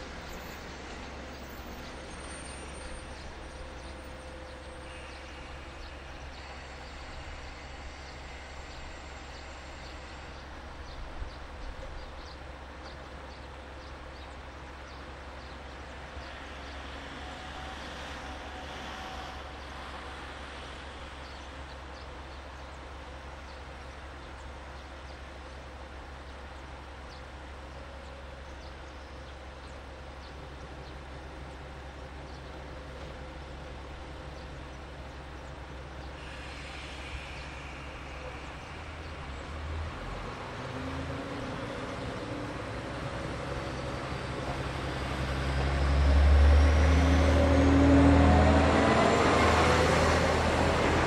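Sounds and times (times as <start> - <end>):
diesel railcar engine idling: 0.0 - 51.0.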